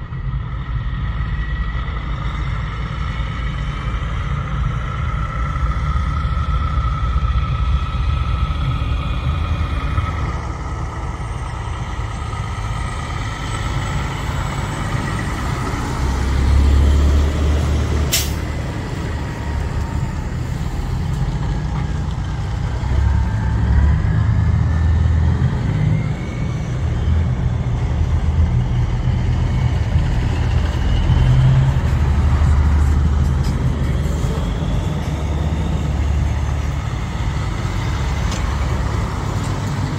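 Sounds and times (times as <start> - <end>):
diesel trucks rumbling past: 0.0 - 39.9.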